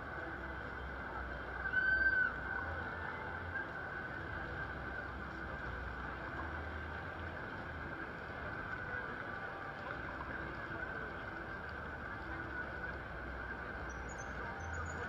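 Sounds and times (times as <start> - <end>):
crowd and wet street noise: 0.0 - 15.0
low traffic rumble: 0.0 - 15.0.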